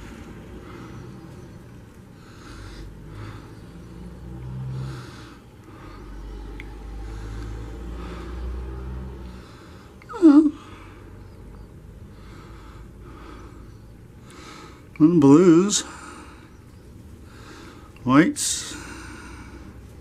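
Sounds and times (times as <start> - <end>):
person breathing: 0.5 - 11.3, 12.0 - 14.9, 15.8 - 16.6, 17.2 - 18.0, 18.6 - 20.0.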